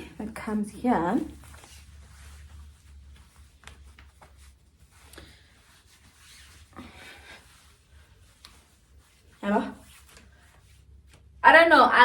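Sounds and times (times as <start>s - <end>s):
clothing fabric rustling: 0.0s - 11.8s.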